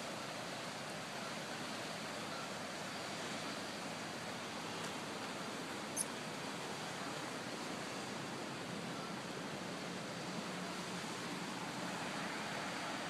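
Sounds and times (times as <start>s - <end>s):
fast river water rushing: 0.0s - 13.0s.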